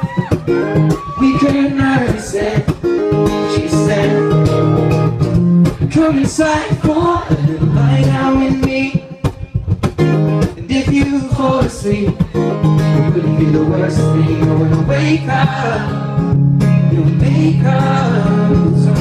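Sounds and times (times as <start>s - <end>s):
strummed acoustic guitar: 0.0s - 19.0s
man singing: 0.8s - 4.8s, 5.8s - 19.0s.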